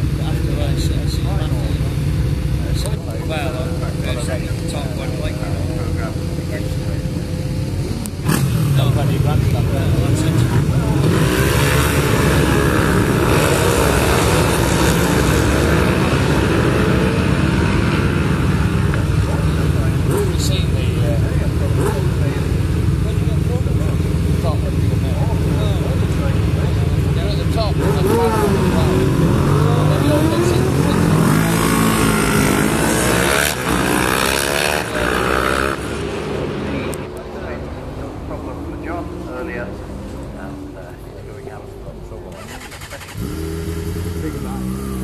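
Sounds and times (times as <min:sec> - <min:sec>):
racing motorcycles revving: 0:00.0 - 0:45.0.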